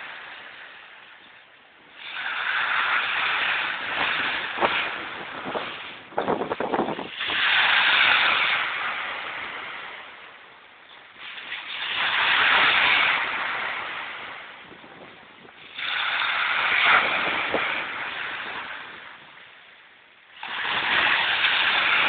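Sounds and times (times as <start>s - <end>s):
crackling rattle: 0.0s - 19.6s, 20.3s - 22.0s
small waves washing up shore: 0.0s - 22.0s.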